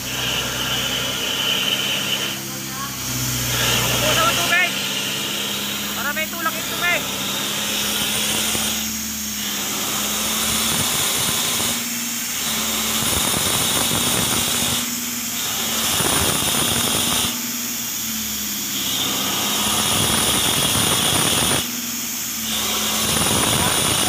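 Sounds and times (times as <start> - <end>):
hissing water spray: 0.0 - 24.0
water jetter engine running: 0.0 - 24.0.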